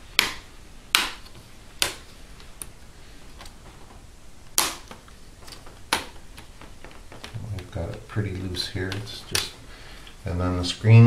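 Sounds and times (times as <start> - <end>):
faint plastic clicks: 0.1 - 10.2
plastic clips snapping loose: 0.1 - 10.2.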